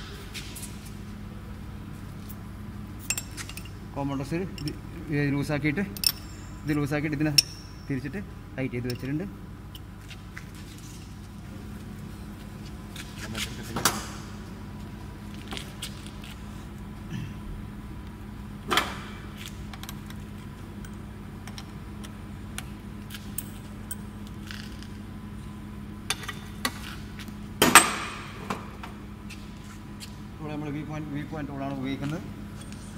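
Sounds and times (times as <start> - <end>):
machine hum: 0.0 - 32.9.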